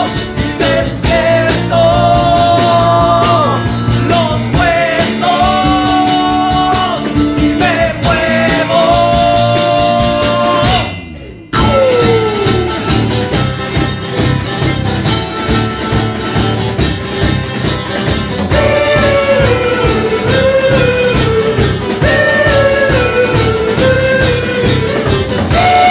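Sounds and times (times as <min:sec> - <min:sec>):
folk-rock band playing: 0:00.0 - 0:25.9.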